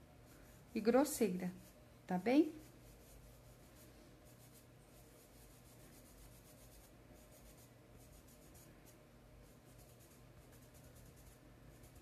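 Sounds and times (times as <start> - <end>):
paintbrush scratching on sackcloth: 0.1 - 12.0.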